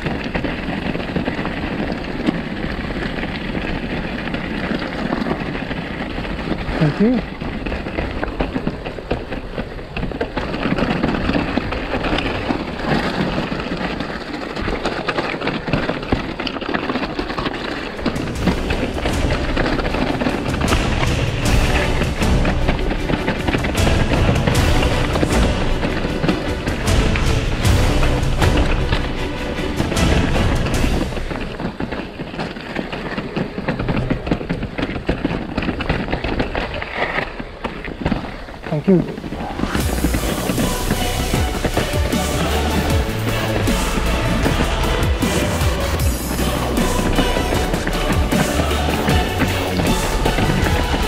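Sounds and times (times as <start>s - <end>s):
bike knocking and rattling: 0.0s - 51.0s
bike tyres crunching over stones: 0.0s - 51.0s.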